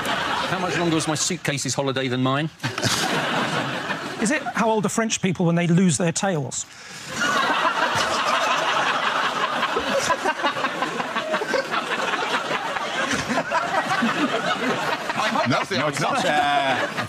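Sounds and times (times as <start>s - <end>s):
studio audience laughing: 0.0s - 1.4s, 2.6s - 4.8s, 7.0s - 17.0s.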